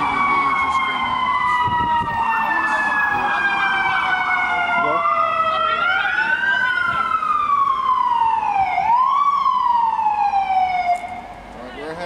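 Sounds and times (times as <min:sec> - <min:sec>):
emergency sirens wailing: 0:00.0 - 0:12.0.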